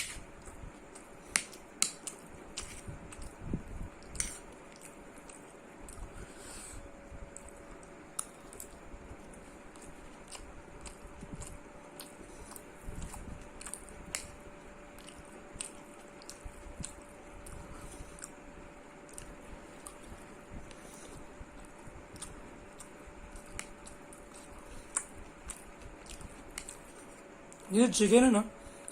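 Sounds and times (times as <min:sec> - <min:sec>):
person chewing food: 0:00.0 - 0:27.7
faint steady hum: 0:00.0 - 0:28.9.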